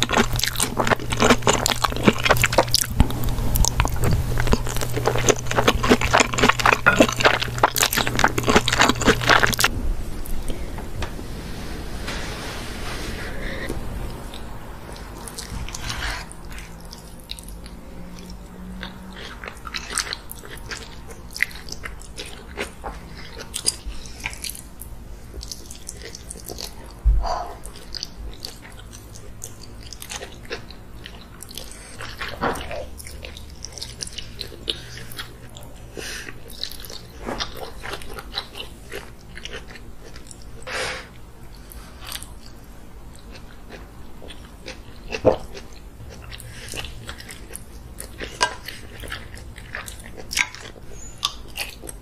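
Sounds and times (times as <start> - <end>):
wet chewing and smacking: 0.0 - 9.7, 14.3 - 40.7, 41.5 - 52.0.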